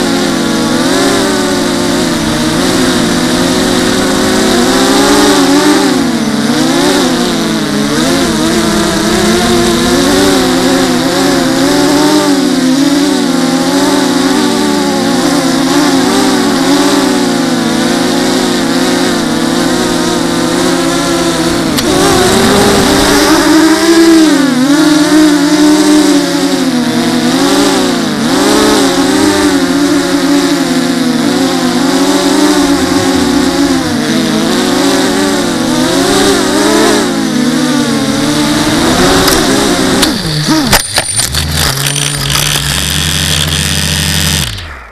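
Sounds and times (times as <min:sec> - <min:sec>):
low steady buzz: 0:00.0 - 0:40.6
quadcopter motors whining: 0:00.0 - 0:44.9.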